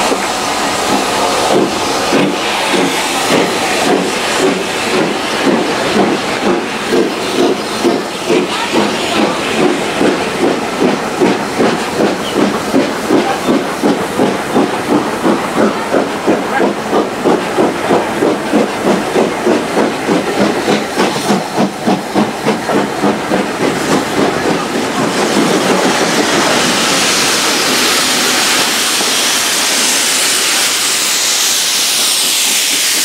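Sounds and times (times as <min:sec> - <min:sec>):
steam hiss: 0:00.0 - 0:33.0
steam locomotive chuffing: 0:00.0 - 0:33.0.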